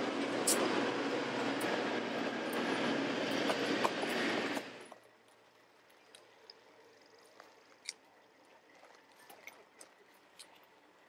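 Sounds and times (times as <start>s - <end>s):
wheels clicking over rail joints: 0.0s - 11.0s.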